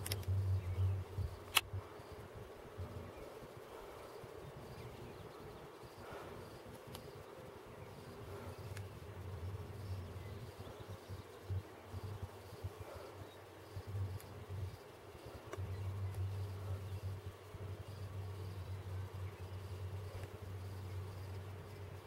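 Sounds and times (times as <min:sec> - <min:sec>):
insects buzzing and chirping: 0:00.0 - 0:22.0.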